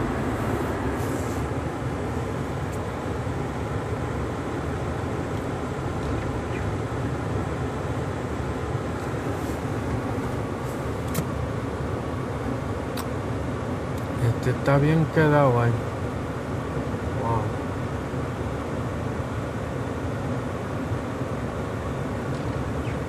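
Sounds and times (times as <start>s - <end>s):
truck engine and tyre noise: 0.0s - 23.0s.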